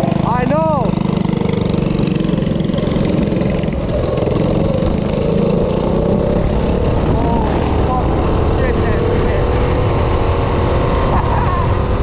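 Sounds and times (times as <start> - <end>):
small engine running: 0.0 - 11.7.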